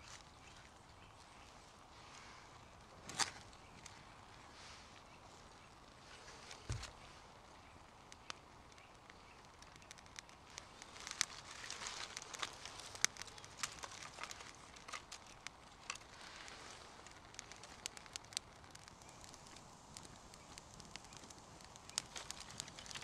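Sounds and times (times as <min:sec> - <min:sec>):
twig fire crackling and popping: 0:00.0 - 0:23.0
twigs rustling: 0:00.0 - 0:23.0.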